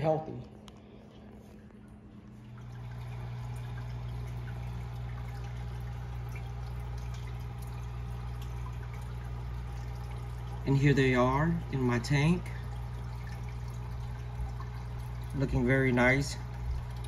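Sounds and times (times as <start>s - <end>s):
low pump hum: 0.0s - 17.0s
water trickling: 0.0s - 17.0s.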